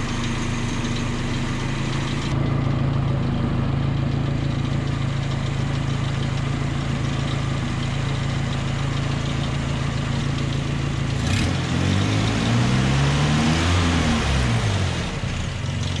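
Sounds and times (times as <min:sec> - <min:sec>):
pickup engine idling and revving: 0:00.0 - 0:16.0.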